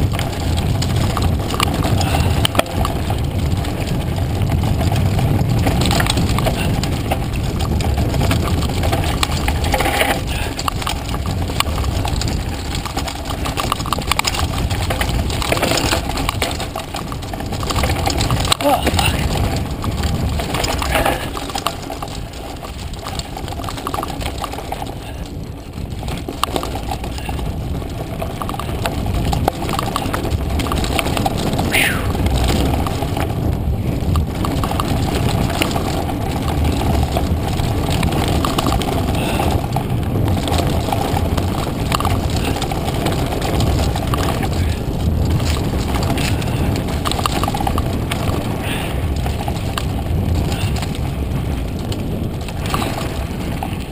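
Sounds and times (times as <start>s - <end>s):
bike parts rattling: 0.0s - 53.9s
tyres rolling over dirt: 0.0s - 53.9s
wind buffeting microphone: 0.0s - 53.9s.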